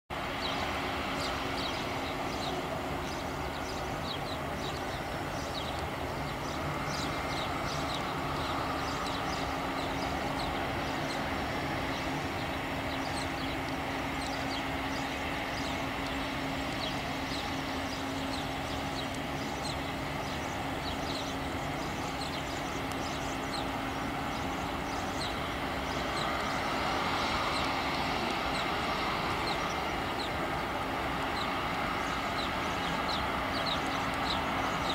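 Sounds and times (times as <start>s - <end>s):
jet engines whining: 0.1s - 34.9s.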